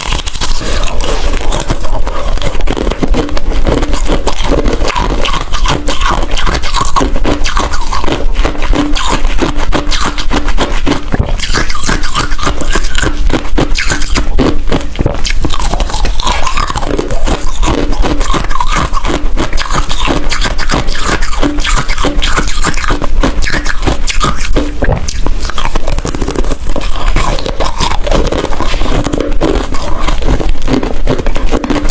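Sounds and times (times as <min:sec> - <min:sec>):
ice crunching in mouth: 0:00.0 - 0:31.9.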